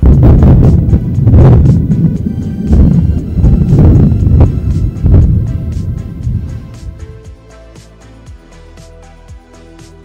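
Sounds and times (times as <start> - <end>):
bass-heavy background music: 0.0 - 10.0.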